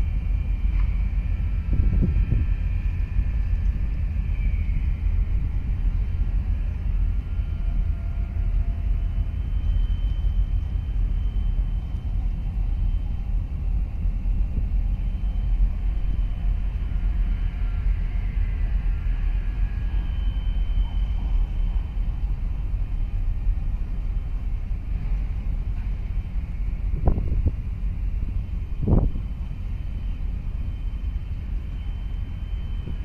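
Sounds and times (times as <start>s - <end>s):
wind buffeting microphone: 0.0s - 9.5s, 10.4s - 20.0s, 20.8s - 33.0s.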